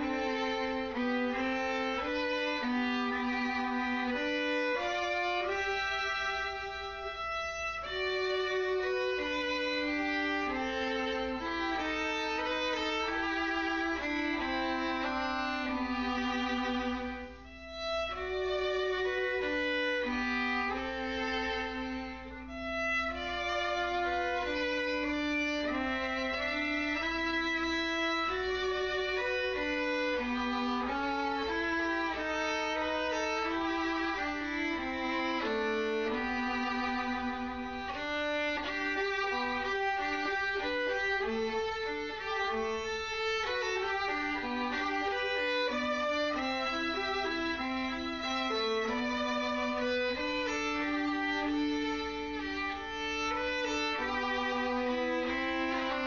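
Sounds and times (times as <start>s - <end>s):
violin melody with vibrato: 0.0s - 56.0s.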